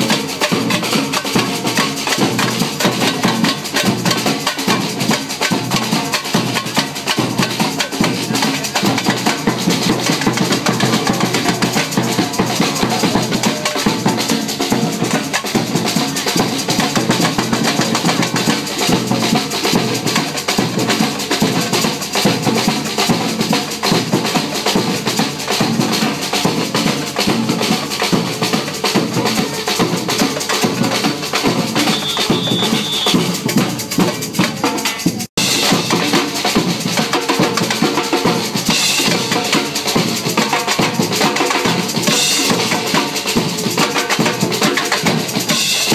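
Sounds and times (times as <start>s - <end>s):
cymbals: 0.0s - 45.9s
street percussion band drumming: 0.0s - 45.9s.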